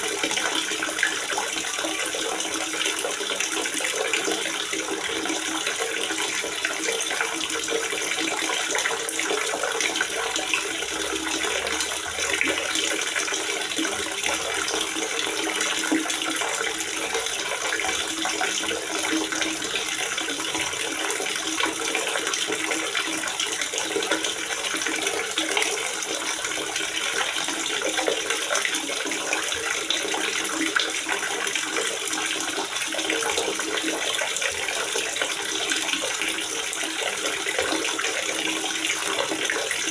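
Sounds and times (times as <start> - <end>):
water gurgling and splashing: 0.0 - 39.9.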